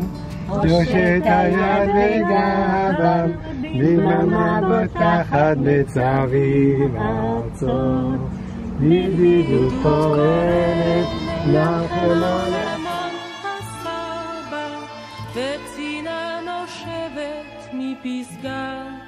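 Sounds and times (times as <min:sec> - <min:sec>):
men and women singing together: 0:00.5 - 0:19.0.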